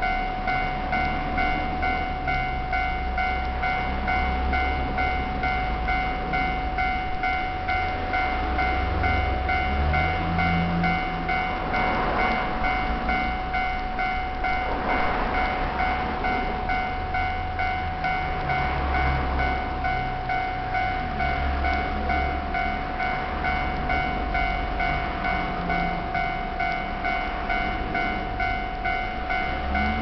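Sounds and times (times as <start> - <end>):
level crossing alarm bell: 0.0 - 30.0
low rumble: 0.0 - 30.0.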